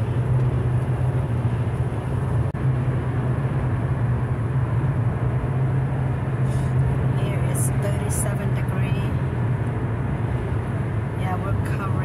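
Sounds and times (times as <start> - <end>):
engine and tyre hum: 0.0 - 12.0
road rumble: 0.0 - 12.0.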